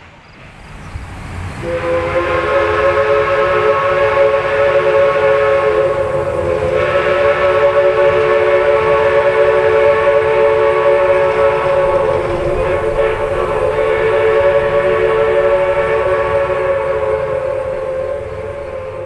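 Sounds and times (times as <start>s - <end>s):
locomotive chime horn: 0.7s - 19.0s.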